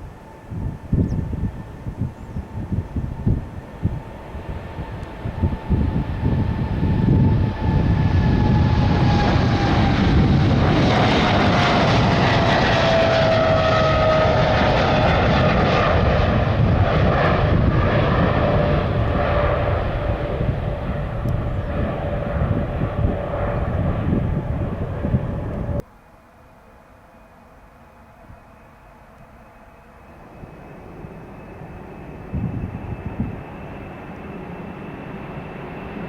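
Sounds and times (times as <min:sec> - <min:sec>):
jet airliner passing by: 0:00.0 - 0:36.0.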